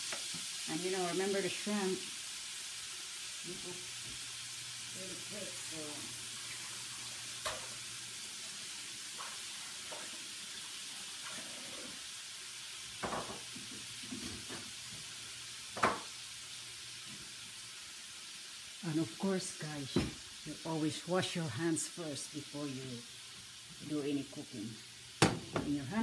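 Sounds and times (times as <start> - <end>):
shrimp sizzling in butter: 0.0 - 26.0.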